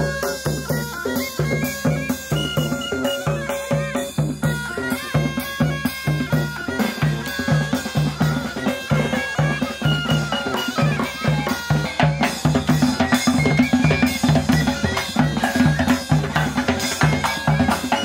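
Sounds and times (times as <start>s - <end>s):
bagpipe melody: 0.0s - 18.0s
drums: 0.0s - 18.0s.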